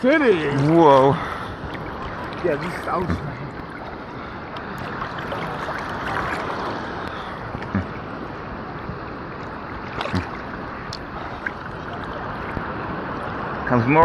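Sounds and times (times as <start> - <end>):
sea water sloshing around wading person: 0.2 - 13.7
splashes: 0.2 - 13.8.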